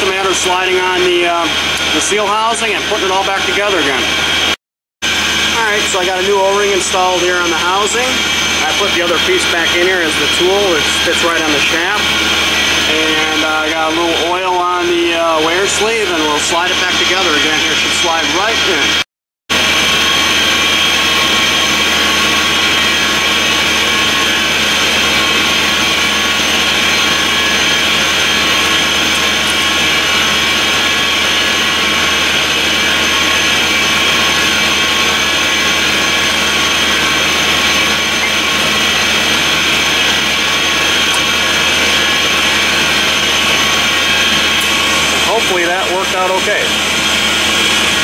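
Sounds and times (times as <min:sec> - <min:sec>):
air compressor hissing: 0:00.0 - 0:48.0.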